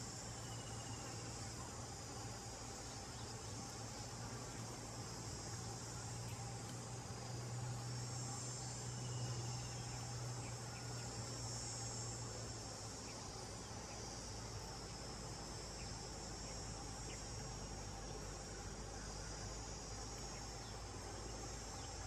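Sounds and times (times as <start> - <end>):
insect chorus drone: 0.0 - 22.0
low steady hum: 0.0 - 22.0.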